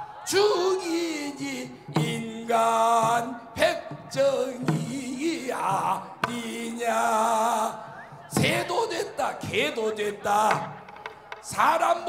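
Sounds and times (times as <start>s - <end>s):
man singing unaccompanied: 0.2s - 12.0s.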